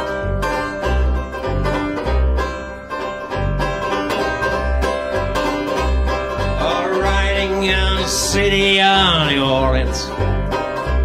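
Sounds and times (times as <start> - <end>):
banjo picking: 0.0 - 11.0
double bass deep notes: 0.0 - 11.0.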